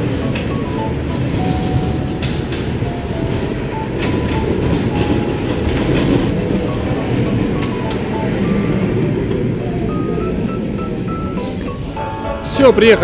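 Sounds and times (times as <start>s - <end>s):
toy train wheels rumbling: 0.0s - 12.2s
faint tune: 0.0s - 13.0s.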